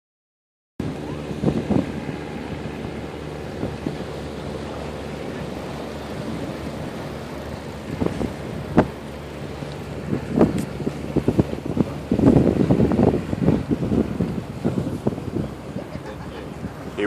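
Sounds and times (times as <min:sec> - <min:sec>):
low engine hum: 0:00.8 - 0:17.0
wind buffeting microphone: 0:00.8 - 0:17.0.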